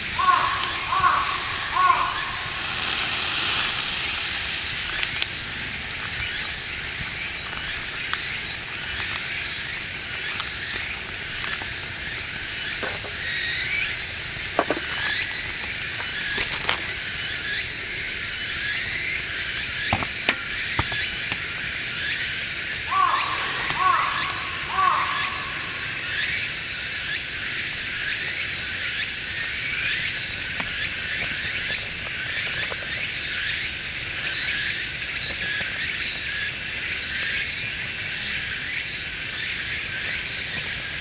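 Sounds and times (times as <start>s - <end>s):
cicadas buzzing: 0.0s - 41.0s.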